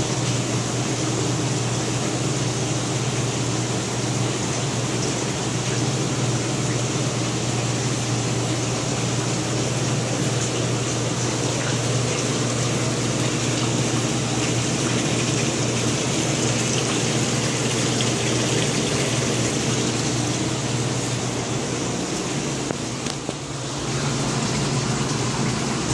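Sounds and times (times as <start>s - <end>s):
aquarium pump hum: 0.0s - 25.9s
water rushing: 0.0s - 25.9s.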